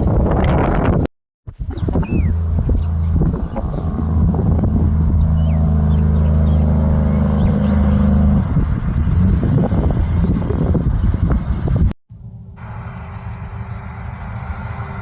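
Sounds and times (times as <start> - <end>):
heavy truck diesel engine: 1.6 - 15.0.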